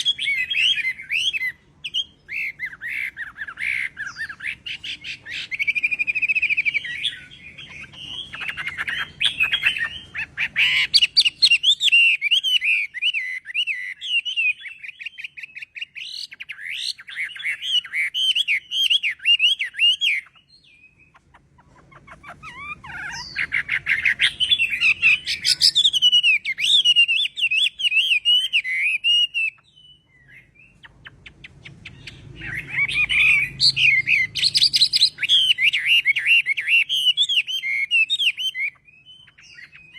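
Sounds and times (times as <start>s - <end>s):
bird warbling and whistling: 0.0s - 39.9s.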